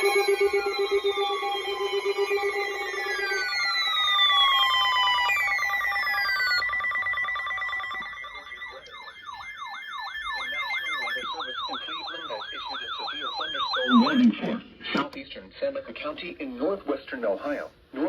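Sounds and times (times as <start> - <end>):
electronic siren: 0.0 - 14.7.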